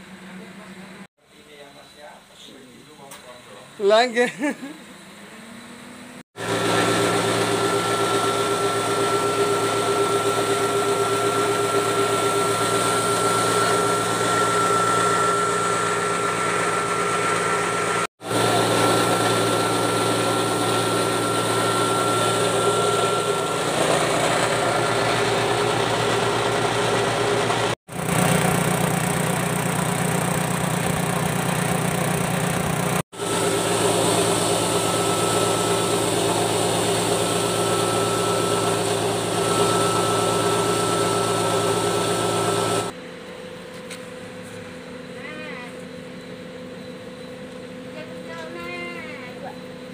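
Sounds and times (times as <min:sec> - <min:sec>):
grinding mill high whine: 0:04.9 - 0:49.2.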